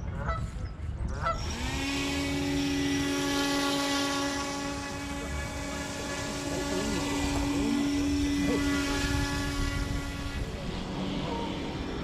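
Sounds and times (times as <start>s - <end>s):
model boat motor whine: 1.1s - 12.0s.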